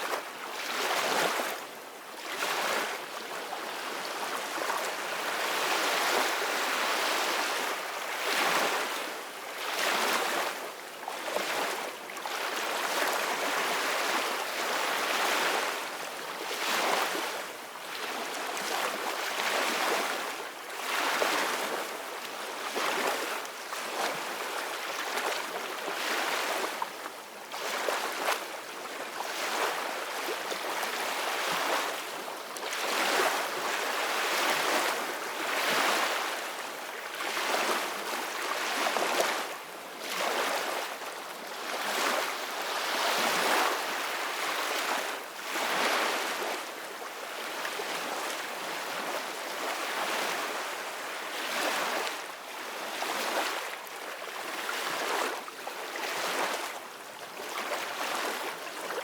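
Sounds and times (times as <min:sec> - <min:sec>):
ocean waves on a beach: 0:00.0 - 0:59.0.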